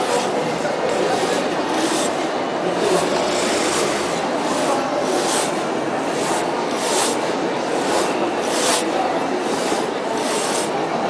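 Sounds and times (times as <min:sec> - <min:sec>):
hand saw rasping through log: 0:00.0 - 0:10.9.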